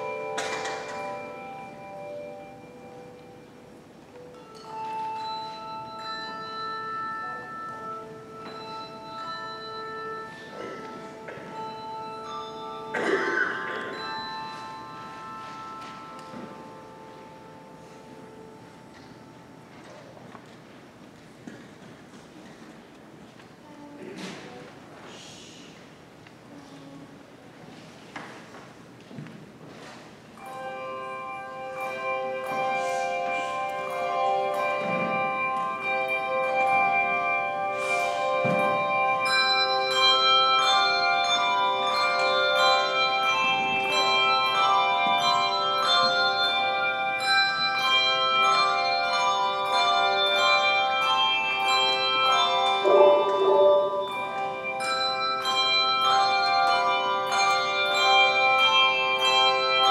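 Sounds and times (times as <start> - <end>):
handbell choir playing: 0.0 - 20.2, 30.4 - 59.9.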